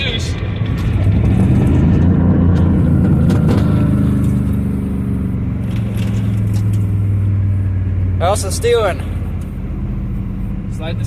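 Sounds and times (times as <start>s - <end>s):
pickup engine droning inside cab: 0.0s - 11.0s.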